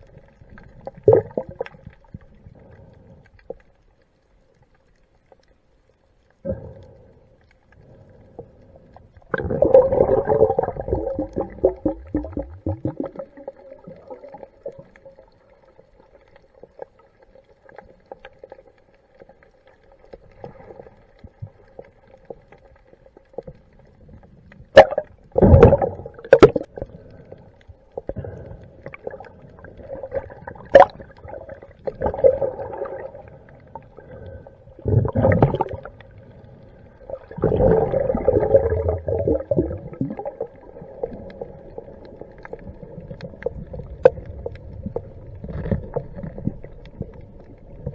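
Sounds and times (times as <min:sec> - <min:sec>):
bubbling and rushing water: 0:00.0 - 0:03.6, 0:07.7 - 0:47.9
muffled underwater sound: 0:00.0 - 0:47.9.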